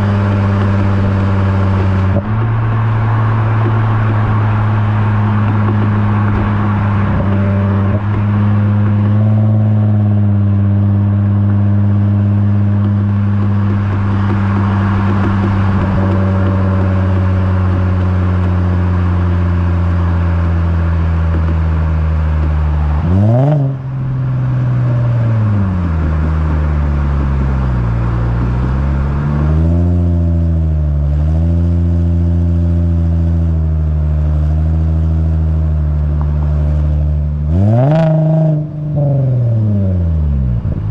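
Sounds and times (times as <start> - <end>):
car exhaust engine note: 0.0 - 40.9.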